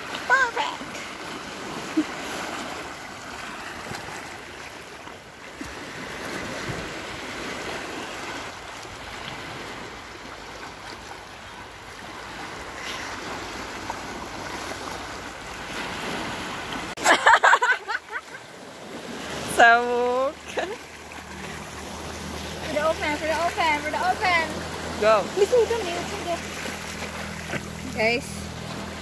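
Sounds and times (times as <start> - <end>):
small sea waves washing ashore: 0.0 - 29.0.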